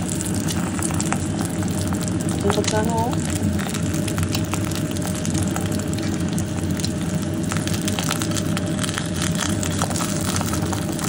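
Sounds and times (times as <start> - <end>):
egg sizzling in oil: 0.0 - 11.0
low hum: 0.0 - 11.0.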